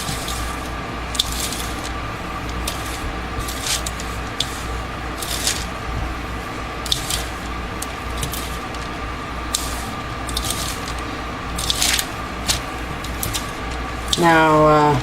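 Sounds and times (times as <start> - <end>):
powder stirred in a bowl: 0.0 - 14.3
fan humming: 0.0 - 15.0.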